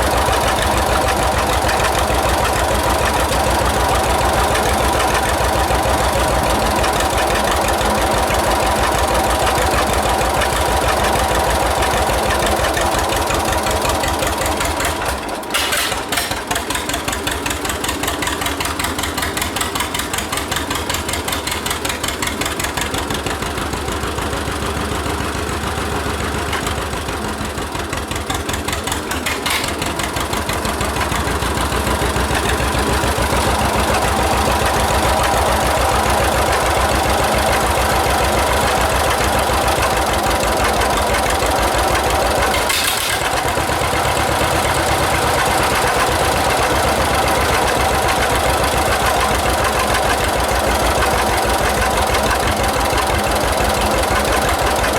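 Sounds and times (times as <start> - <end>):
tractor engine popping exhaust: 0.0 - 54.9.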